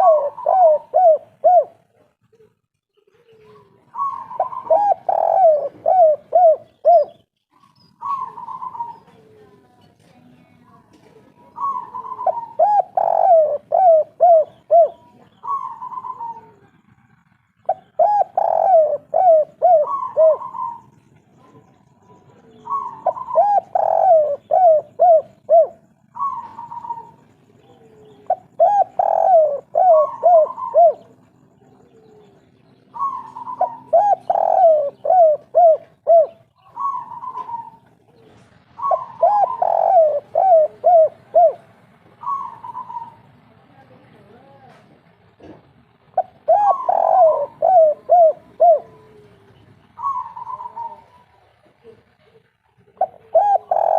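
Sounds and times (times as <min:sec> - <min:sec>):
dove cooing: 0:00.0 - 0:09.8, 0:11.0 - 0:43.4, 0:45.4 - 0:53.9.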